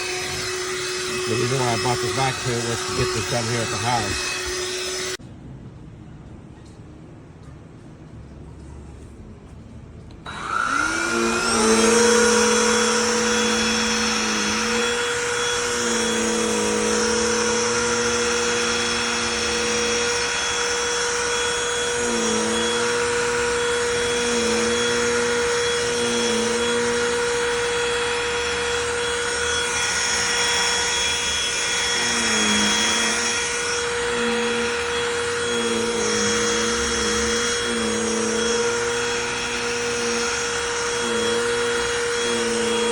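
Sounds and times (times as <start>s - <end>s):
handheld vacuum motor whining: 0.0s - 5.2s, 10.3s - 42.9s.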